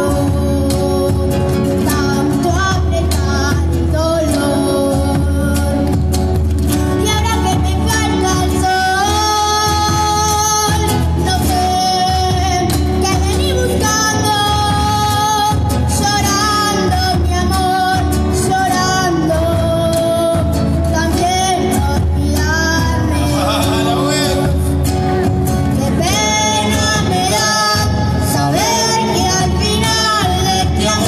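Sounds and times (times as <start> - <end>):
child singing into a microphone: 0.0 - 6.2, 6.9 - 23.8, 25.7 - 31.0
acoustic guitar accompaniment: 0.0 - 31.0.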